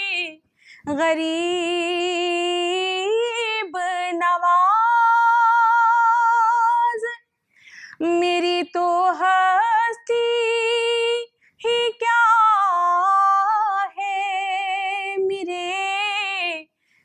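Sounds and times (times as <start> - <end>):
woman singing unaccompanied: 0.0 - 7.2, 8.0 - 16.7.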